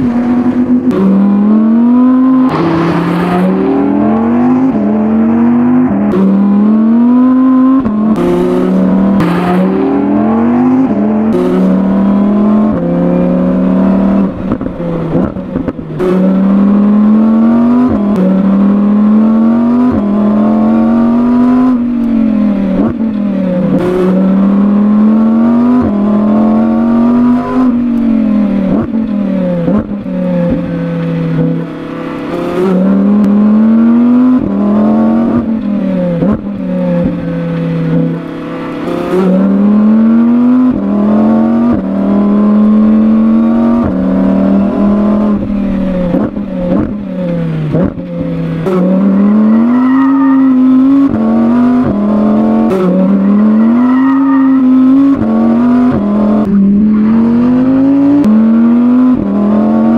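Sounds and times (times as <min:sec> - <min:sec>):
exhaust cracks: 0:00.0 - 0:05.2, 0:06.0 - 0:53.7
engine revving hard: 0:00.0 - 0:29.0, 0:32.2 - 0:35.5, 0:37.9 - 0:48.0, 0:48.6 - 0:59.9.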